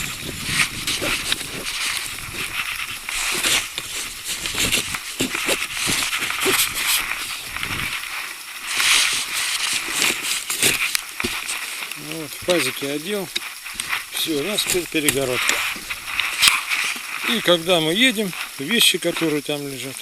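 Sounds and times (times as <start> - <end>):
board rubbing and scraping: 0.0 - 18.6.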